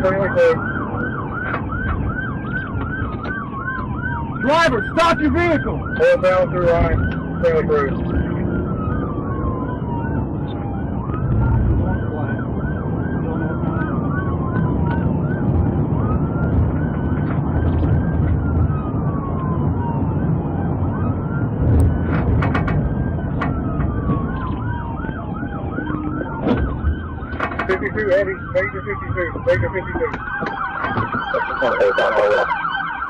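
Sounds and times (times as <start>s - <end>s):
engine and road noise: 0.0s - 33.0s
police siren yelping and wailing: 0.0s - 33.0s.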